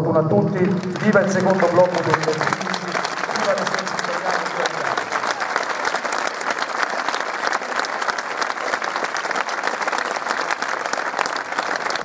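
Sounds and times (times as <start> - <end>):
crowd applauding: 0.4 - 12.0.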